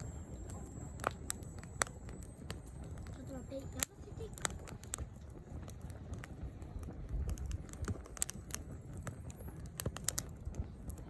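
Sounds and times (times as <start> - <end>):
firewood crackling and popping: 0.0 - 11.0
low rumble: 0.0 - 11.0.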